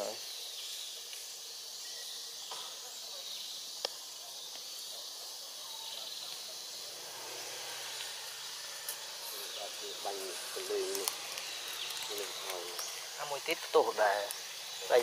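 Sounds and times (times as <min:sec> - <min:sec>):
insects hissing: 0:00.0 - 0:15.0.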